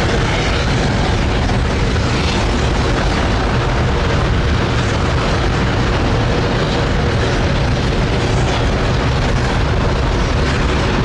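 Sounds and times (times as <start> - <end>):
rocket engine roar: 0.0 - 11.0.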